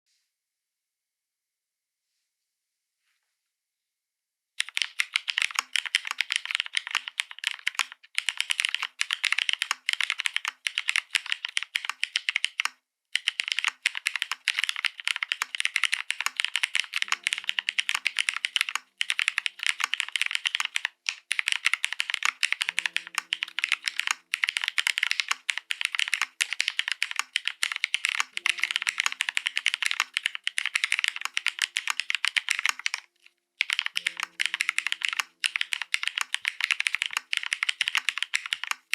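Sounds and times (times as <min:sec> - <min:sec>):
mechanical keyboard typing: 0:04.6 - 0:38.9.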